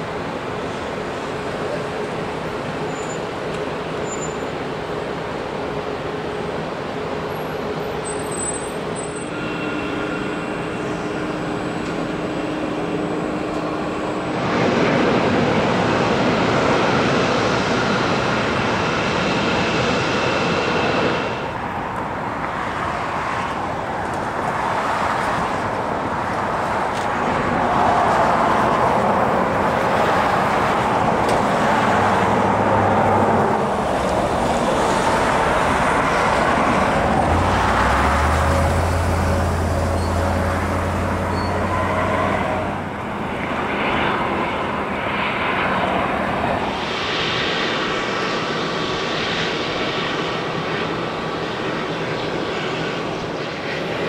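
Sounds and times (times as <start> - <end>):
jet engines with high whine: 0.0 - 54.0.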